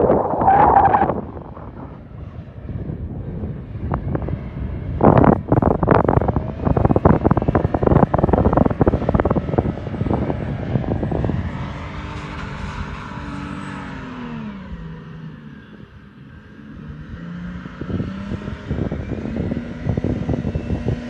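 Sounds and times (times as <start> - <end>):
wind buffeting microphone: 0.0 - 14.9, 16.8 - 21.0.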